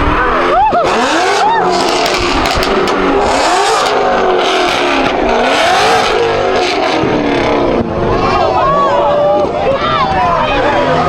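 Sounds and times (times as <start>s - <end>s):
car engine revving: 0.0s - 11.0s
steady rushing noise: 0.0s - 11.0s.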